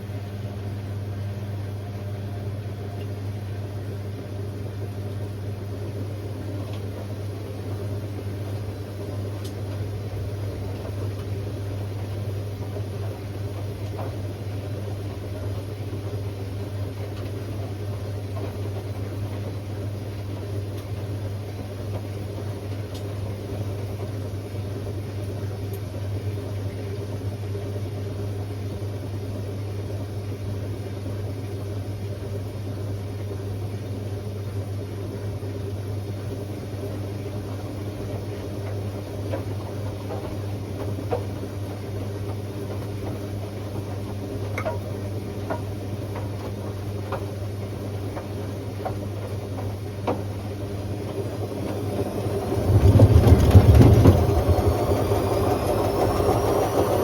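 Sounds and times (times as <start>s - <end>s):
washing machine running: 0.0s - 57.0s
washing machine spin whine: 0.0s - 57.0s.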